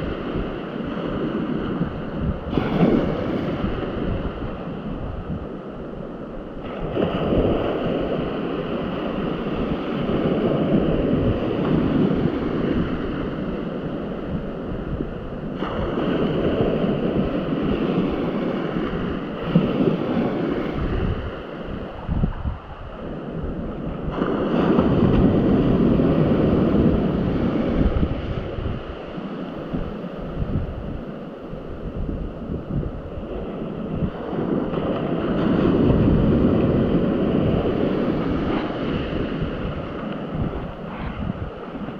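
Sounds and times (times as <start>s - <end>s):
sea waves washing: 0.0s - 41.9s
wind buffeting microphone: 0.0s - 41.9s.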